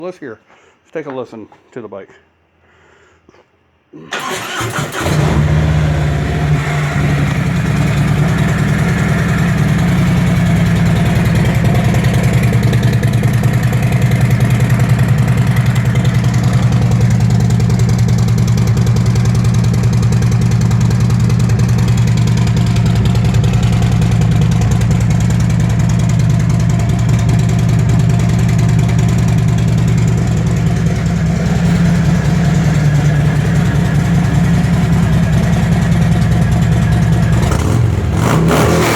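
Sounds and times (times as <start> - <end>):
motorcycle engine idling: 4.2 - 38.9.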